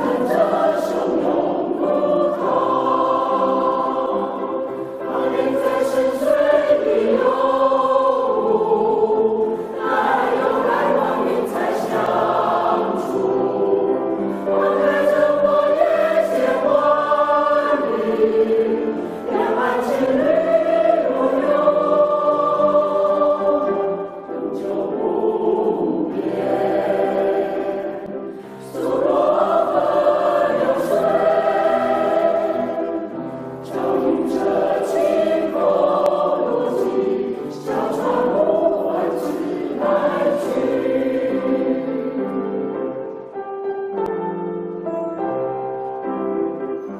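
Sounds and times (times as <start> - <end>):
choir singing: 0.0 - 43.3.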